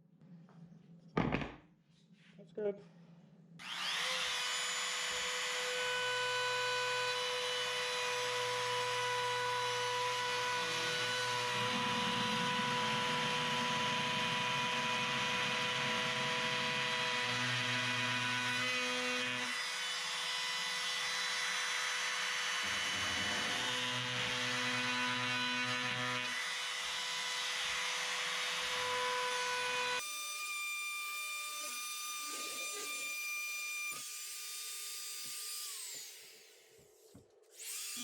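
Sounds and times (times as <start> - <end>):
electric power tool cutting wood: 3.6 - 36.7, 37.5 - 38.0.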